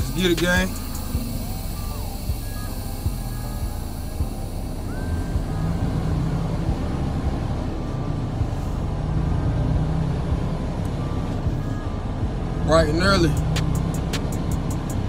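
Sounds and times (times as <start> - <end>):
truck diesel engine rumble: 0.0 - 15.0.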